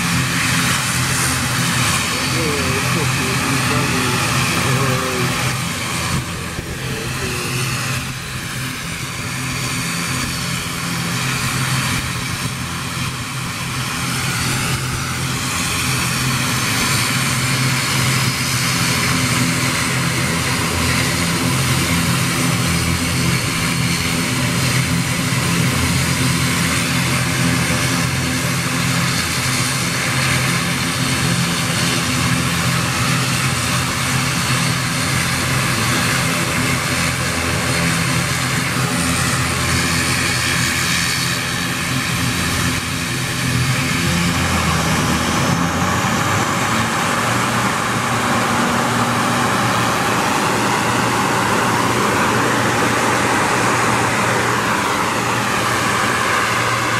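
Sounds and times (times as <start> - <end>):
propeller airliner droning: 0.0 - 56.9.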